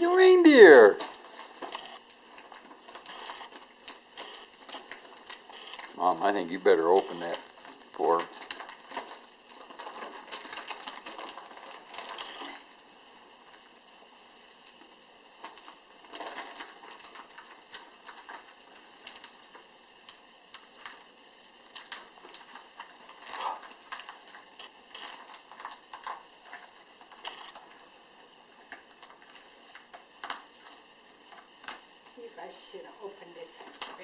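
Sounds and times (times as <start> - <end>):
paper and plastic crinkling: 0.0 - 12.8, 14.6 - 32.0.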